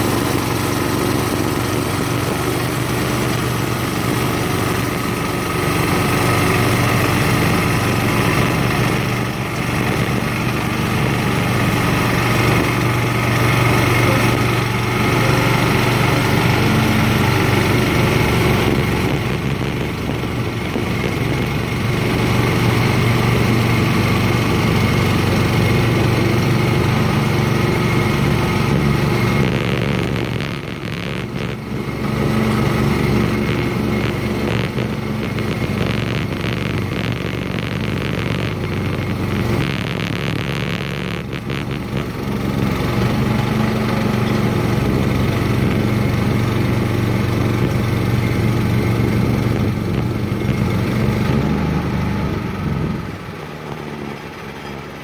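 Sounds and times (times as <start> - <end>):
petrol engine running: 0.0 - 55.0.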